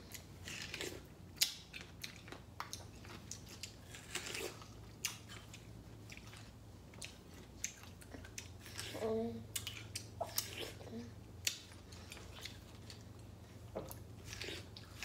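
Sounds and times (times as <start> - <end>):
biting and chewing fruit: 0.0 - 15.0.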